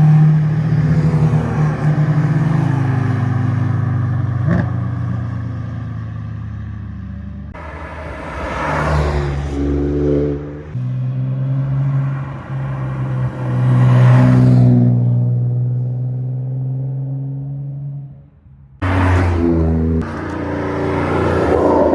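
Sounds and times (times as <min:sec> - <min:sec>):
cars passing: 0:00.0 - 0:21.9.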